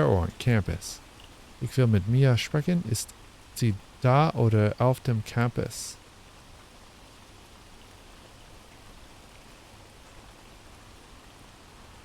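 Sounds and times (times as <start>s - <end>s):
faint rain: 0.0s - 12.0s.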